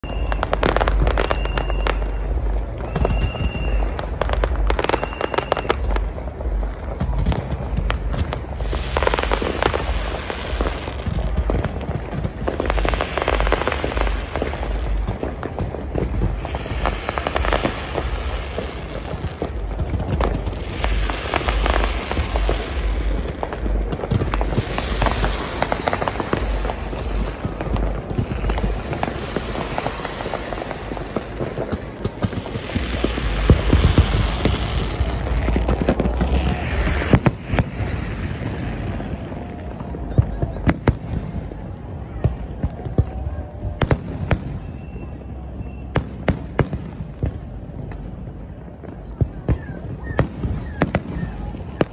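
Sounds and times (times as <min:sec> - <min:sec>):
deep rumble: 0:00.0 - 0:51.9
fireworks crackling and banging: 0:00.0 - 0:51.9.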